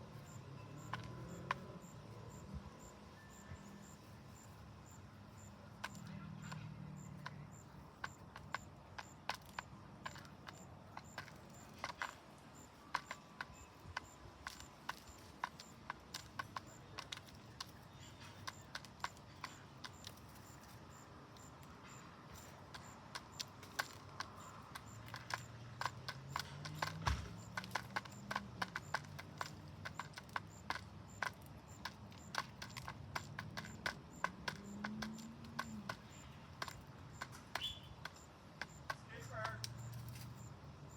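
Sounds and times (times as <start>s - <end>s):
pigeons pecking at food: 0.0s - 40.9s.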